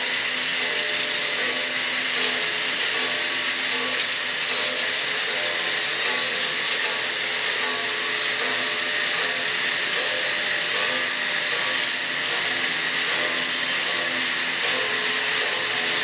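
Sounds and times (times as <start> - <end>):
kinetic sculpture mechanism rasping: 0.0 - 16.0.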